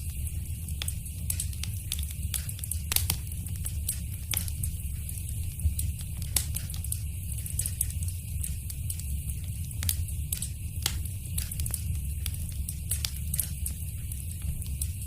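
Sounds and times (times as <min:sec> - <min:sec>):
fire popping and snapping: 0:00.0 - 0:15.0
fire rumbling: 0:00.0 - 0:15.0.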